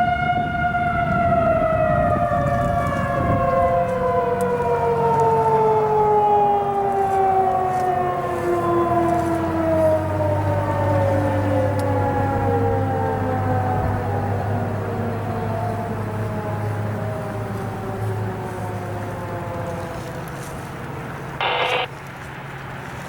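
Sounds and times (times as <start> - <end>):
tornado sirens winding down: 0.0 - 21.9.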